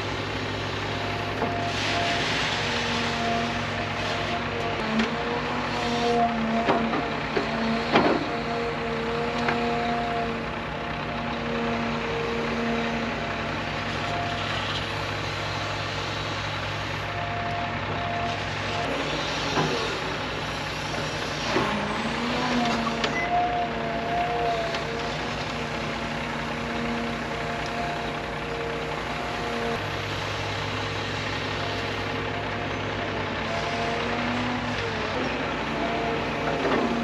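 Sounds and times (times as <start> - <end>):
heavy truck engine running: 0.0 - 37.0.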